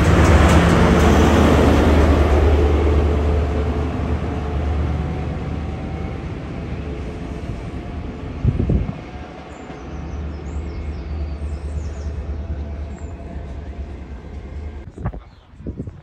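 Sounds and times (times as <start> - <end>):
diesel train engine drone: 0.0 - 15.0
rail noise: 0.0 - 15.7.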